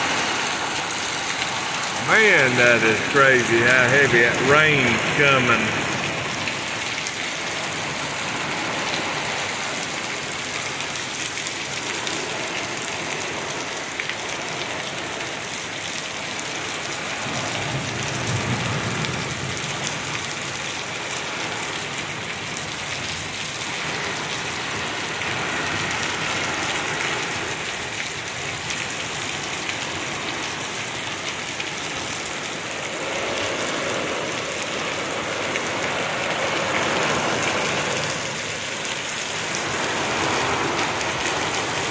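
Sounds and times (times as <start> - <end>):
torrential rain pouring: 0.0 - 41.9.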